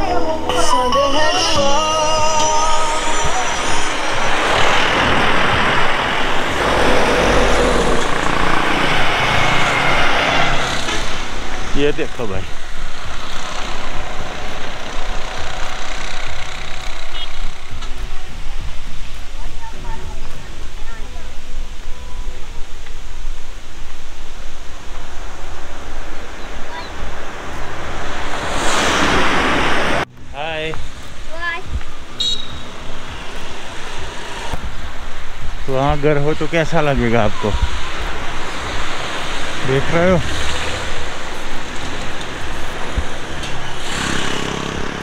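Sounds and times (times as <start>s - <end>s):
road traffic passing: 0.0s - 45.0s
heavy vehicle passing: 2.7s - 20.3s, 24.8s - 45.0s
wind buffeting microphone: 2.8s - 45.0s.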